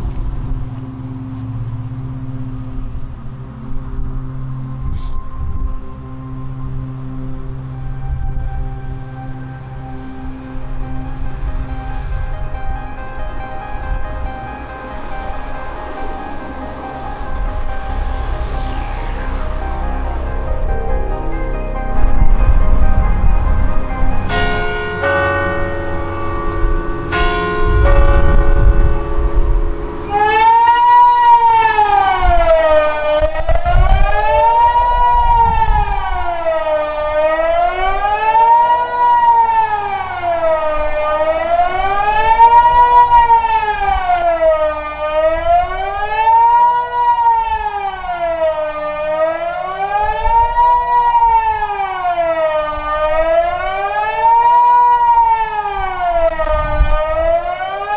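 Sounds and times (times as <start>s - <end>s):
electronic siren wailing: 3.2s - 57.9s.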